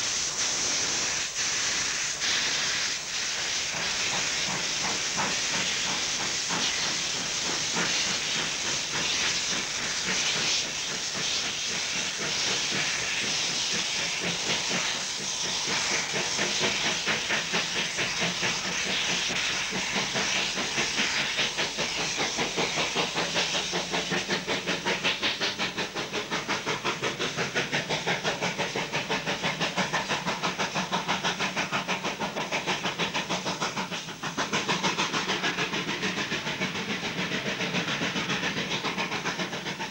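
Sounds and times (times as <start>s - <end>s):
hiss of escaping steam: 0.0s - 39.9s
steam locomotive chuffing: 0.0s - 39.9s.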